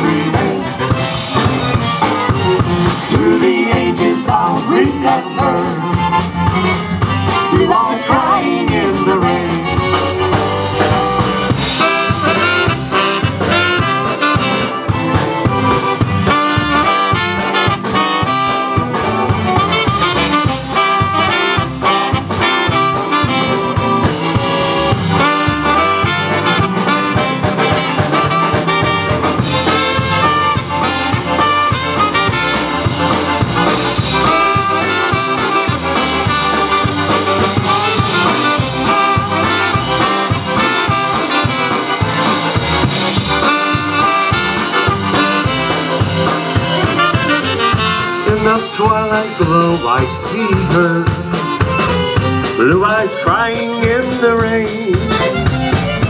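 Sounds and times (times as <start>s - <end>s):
drum kit: 0.0s - 56.0s
electric guitar: 0.0s - 56.0s
saxophone: 0.0s - 56.0s
trombone: 0.0s - 56.0s.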